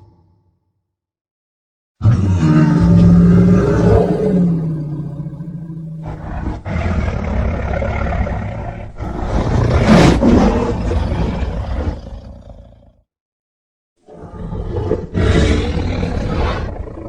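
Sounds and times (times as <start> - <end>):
monster roar: 2.0 - 12.9, 14.1 - 17.0.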